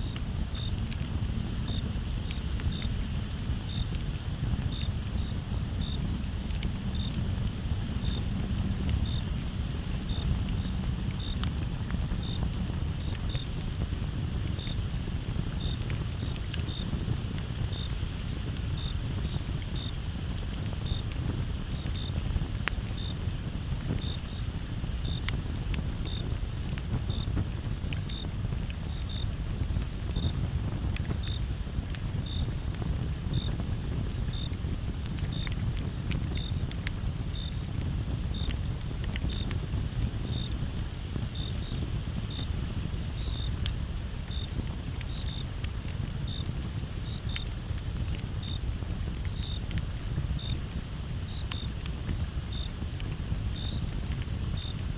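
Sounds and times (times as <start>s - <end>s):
campfire crackling: 0.0s - 54.9s
crickets chirping: 0.0s - 54.9s.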